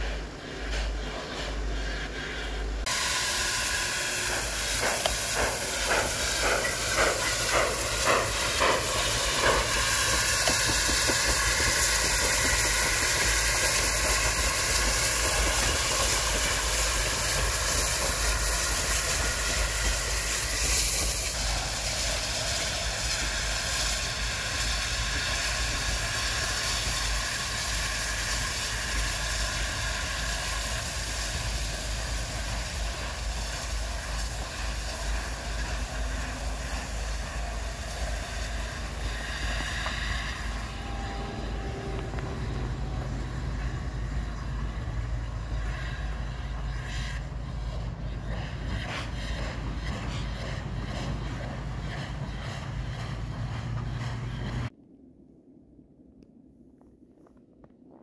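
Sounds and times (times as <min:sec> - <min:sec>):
locomotive exhaust chuffs: 0:00.0 - 0:54.7
steam hissing: 0:00.0 - 0:54.7.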